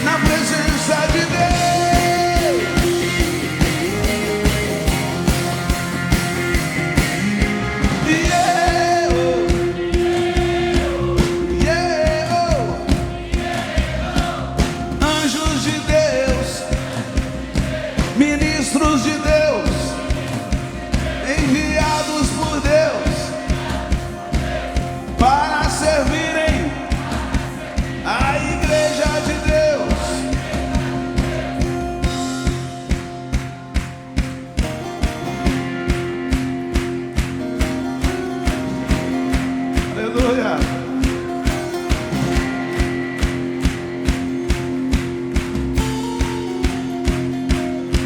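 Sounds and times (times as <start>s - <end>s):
driving drum beat: 0.0s - 48.0s
live band playing upbeat song: 0.0s - 48.0s.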